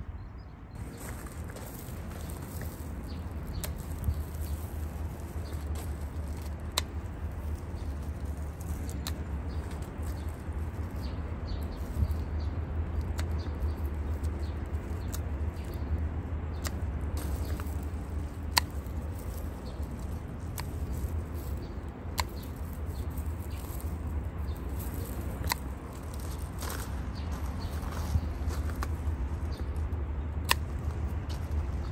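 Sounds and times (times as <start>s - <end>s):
low steady rumble: 0.0s - 31.9s
garden scissors snipping stems: 0.8s - 31.9s.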